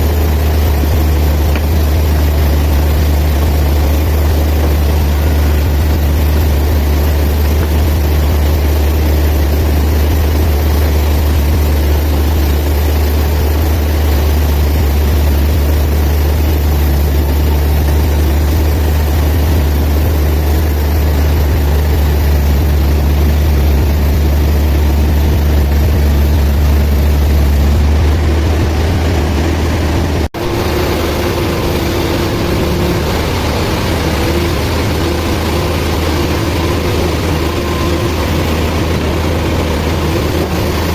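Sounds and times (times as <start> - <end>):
band sawmill machinery drone: 0.0 - 40.9
higher steady hum: 0.0 - 40.9.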